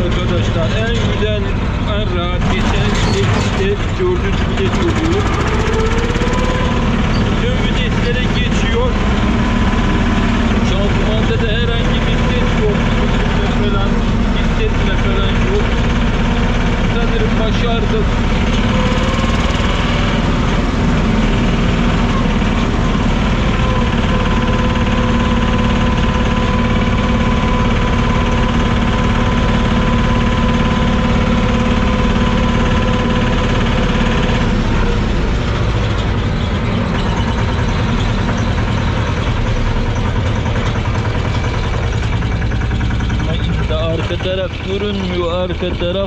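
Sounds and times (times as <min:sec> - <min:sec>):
farm cart engine running: 0:00.0 - 0:46.0.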